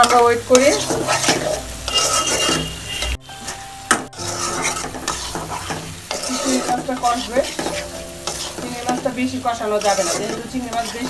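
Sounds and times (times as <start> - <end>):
metal spoon scraping a pot: 0.0 - 3.6, 4.2 - 11.0
prawns sizzling in oil: 0.0 - 11.0.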